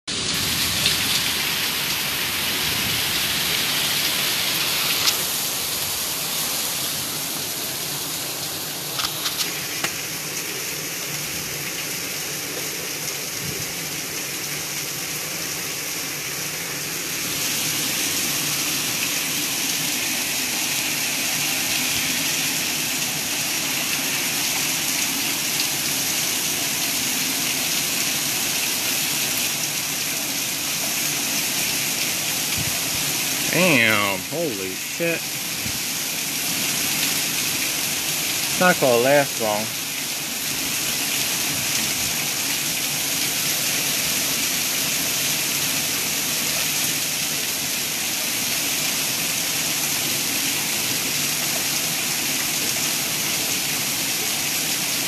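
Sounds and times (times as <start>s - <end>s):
heavy rain pouring: 0.1s - 55.0s.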